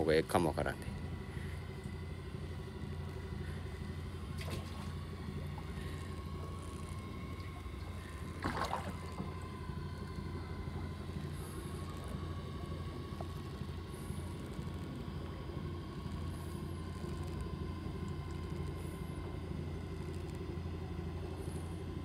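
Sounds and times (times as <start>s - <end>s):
boat engine idling: 0.0s - 22.0s
faint steady whine: 0.0s - 22.0s.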